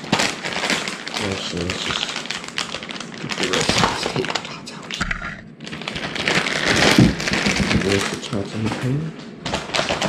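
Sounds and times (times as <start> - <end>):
plastic bag crinkling: 0.0 - 4.6, 5.6 - 10.0.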